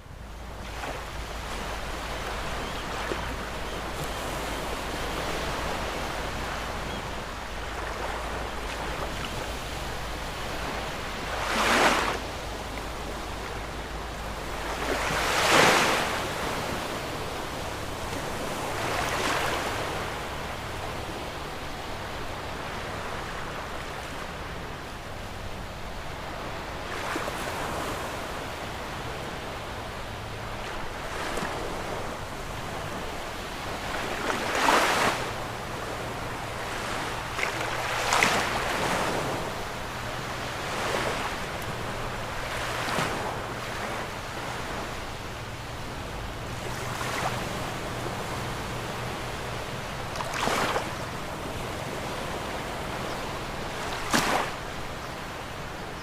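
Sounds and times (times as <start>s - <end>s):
sea waves breaking on beach: 0.4s - 56.0s.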